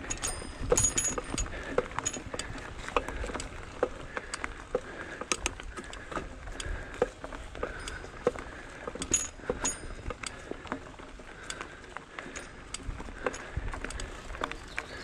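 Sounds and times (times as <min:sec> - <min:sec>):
bike rattling and clicking: 0:00.0 - 0:15.0
bike tyres rolling on dirt: 0:00.0 - 0:15.0.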